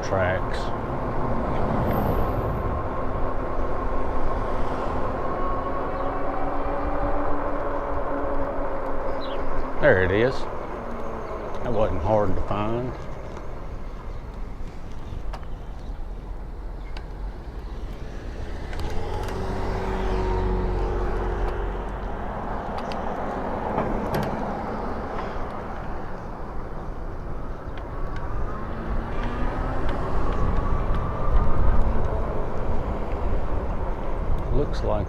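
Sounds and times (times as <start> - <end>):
low wind rumble: 0.0 - 35.0
street traffic: 0.0 - 35.0.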